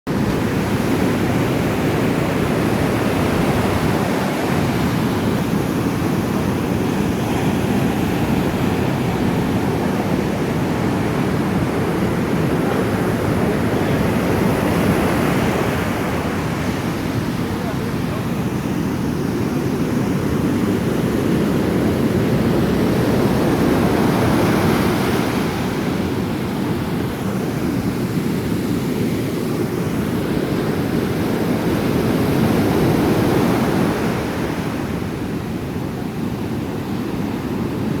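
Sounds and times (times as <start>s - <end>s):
ocean surf breaking: 0.1s - 38.0s
wind buffeting the microphone: 0.1s - 38.0s.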